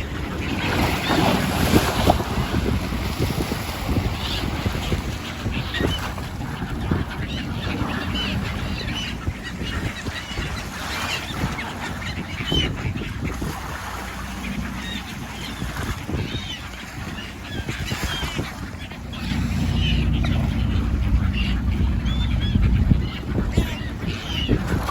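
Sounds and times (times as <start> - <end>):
low rumble of wind and water: 0.0 - 24.9
seabirds calling: 0.0 - 24.9.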